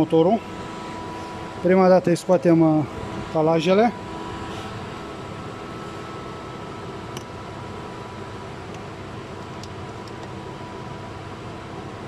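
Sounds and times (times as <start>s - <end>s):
workshop mechanical hum: 0.0s - 12.0s.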